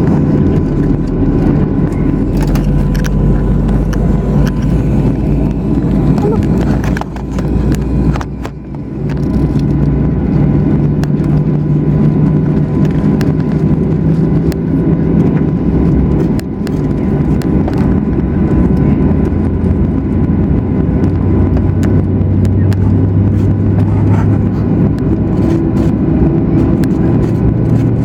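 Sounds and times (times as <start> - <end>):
aircraft cabin low rumble: 0.0 - 28.0
faint whining tones: 0.0 - 28.0.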